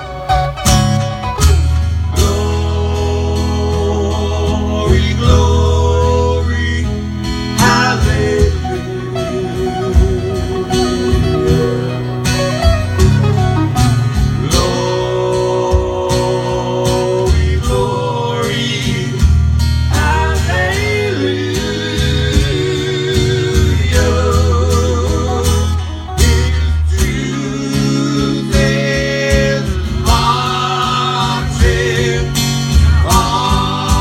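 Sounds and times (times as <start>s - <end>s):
acoustic guitars strumming: 0.0s - 34.0s
man singing: 2.1s - 13.0s, 14.3s - 34.0s.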